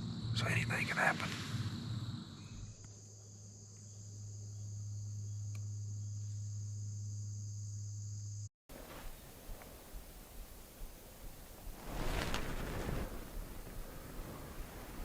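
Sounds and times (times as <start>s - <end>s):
steady low hum: 0.0s - 12.3s
crickets chirping: 0.0s - 15.0s.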